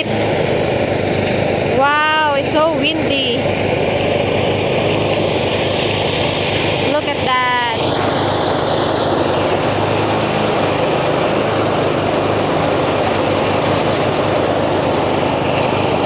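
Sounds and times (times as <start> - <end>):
engine hum: 0.0 - 16.0
thresher rushing noise: 0.0 - 16.0.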